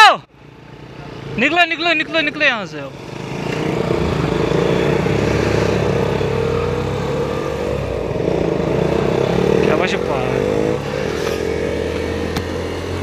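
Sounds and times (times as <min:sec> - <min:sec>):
motorcycle engines: 0:00.0 - 0:13.0
wind and road noise: 0:00.3 - 0:13.0.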